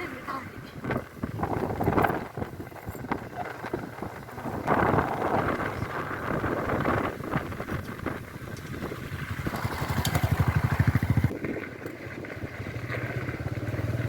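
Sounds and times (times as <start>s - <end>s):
engine running with low throb: 0.8s - 14.0s.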